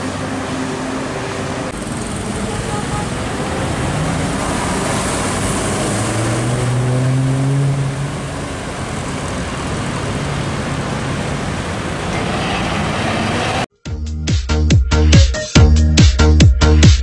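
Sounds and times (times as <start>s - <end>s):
diesel truck passing: 0.0s - 13.7s
road traffic: 0.0s - 13.8s.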